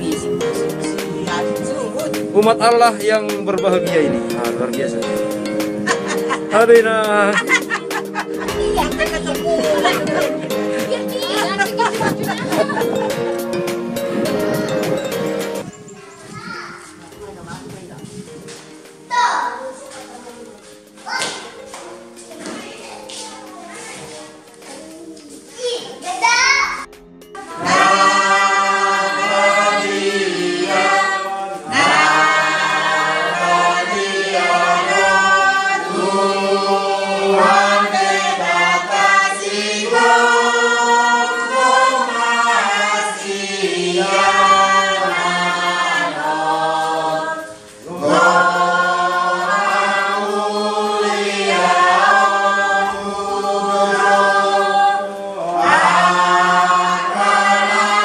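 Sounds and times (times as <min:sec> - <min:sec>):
congregation singing a hymn: 0:00.0 - 0:16.0, 0:27.2 - 0:58.0.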